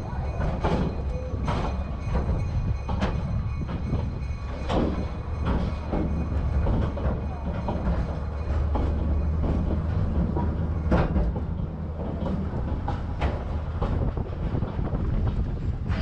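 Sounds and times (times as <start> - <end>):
train car rumbling on track: 0.0 - 16.0
wheels clacking over rail joints: 0.0 - 16.0.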